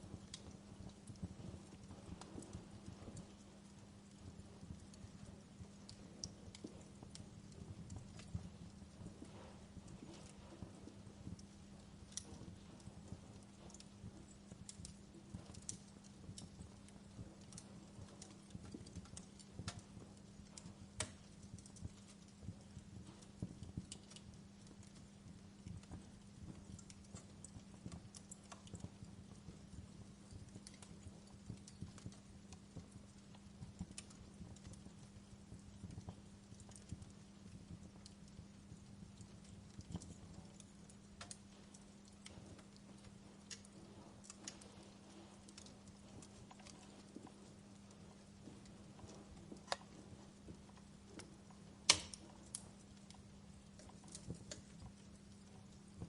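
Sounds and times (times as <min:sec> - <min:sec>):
low steady hum: 0:00.0 - 0:56.0
sharp pops from fire: 0:00.0 - 0:56.0
wood fire crackling: 0:00.0 - 0:56.0.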